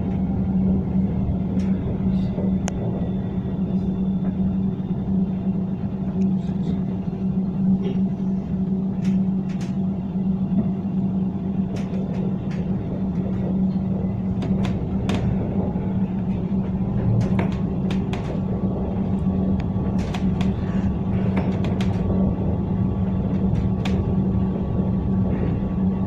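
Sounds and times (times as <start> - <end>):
tram rumbling along street: 0.0 - 26.0.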